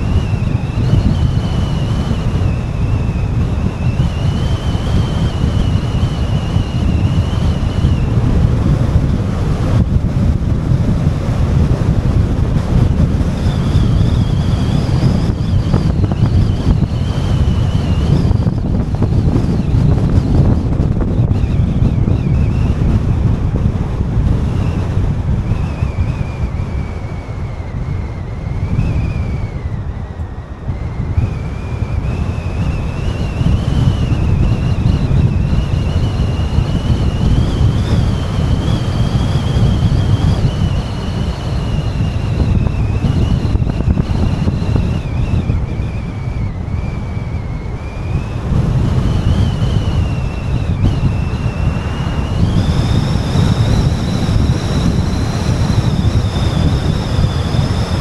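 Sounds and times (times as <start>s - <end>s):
car road and wind noise: 0.0s - 58.0s
thin high whine: 0.0s - 58.0s.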